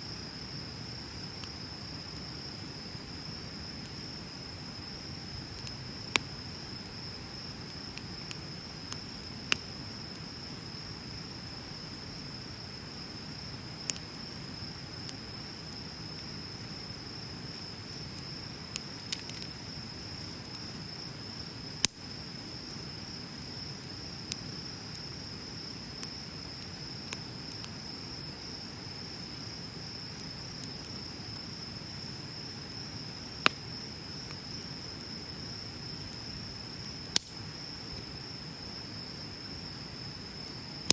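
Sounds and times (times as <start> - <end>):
bonfire crackling and popping: 0.1 - 40.9.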